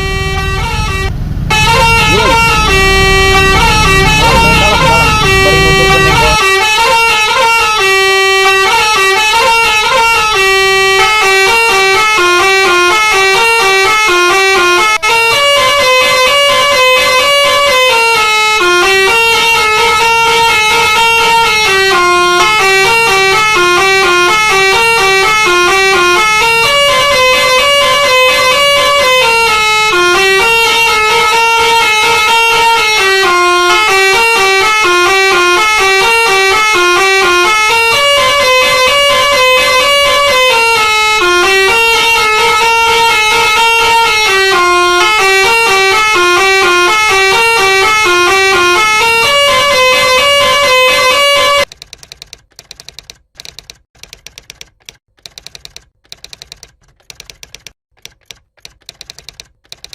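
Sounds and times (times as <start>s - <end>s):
musical bus air horn melody: 0.0s - 51.7s.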